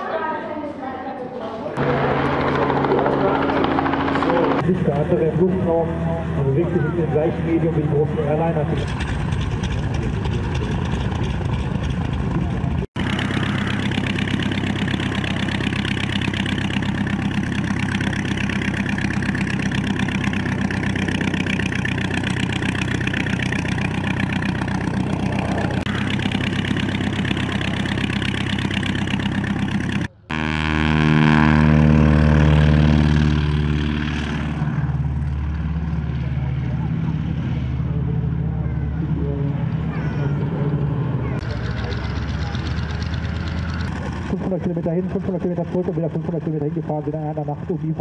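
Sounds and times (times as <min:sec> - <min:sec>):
louder engine with falling pitch: 0:01.8 - 0:48.0
propeller aircraft engine: 0:01.8 - 0:48.0.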